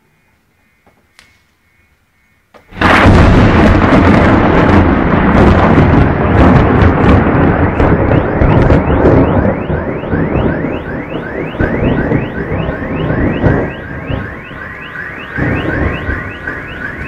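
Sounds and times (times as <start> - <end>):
thunder crack and rumble: 2.7 - 17.0.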